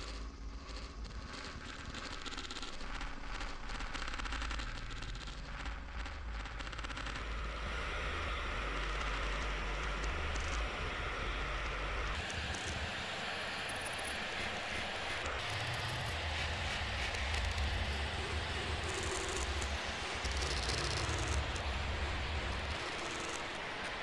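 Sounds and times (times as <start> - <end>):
crackling static: 0.2 - 24.0.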